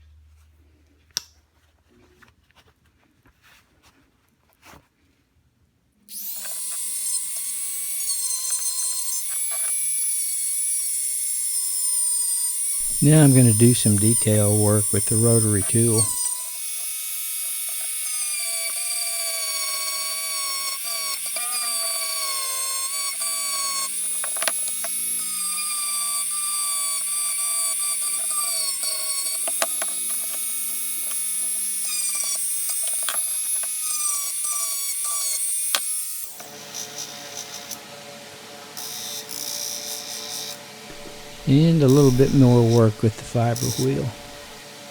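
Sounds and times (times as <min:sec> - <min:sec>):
rotary tool whining on metal: 0:06.1 - 0:44.9.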